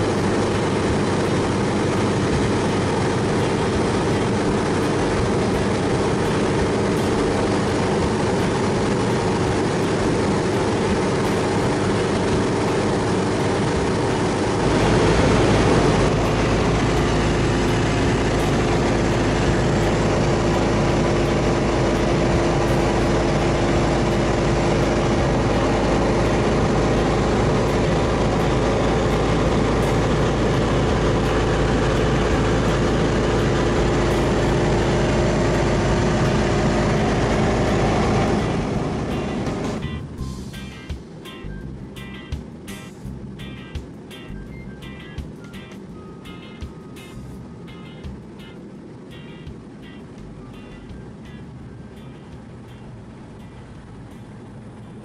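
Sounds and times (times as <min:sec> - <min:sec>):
aircraft engine drone: 0:00.0 - 0:55.0
low rumble: 0:00.0 - 0:55.0.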